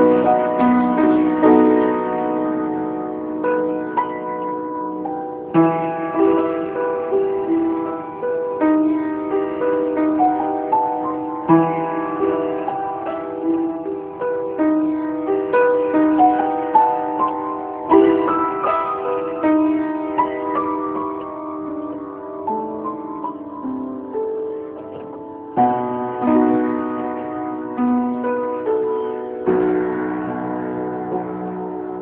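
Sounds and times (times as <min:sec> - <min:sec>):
solo piano melody: 0:00.0 - 0:32.0.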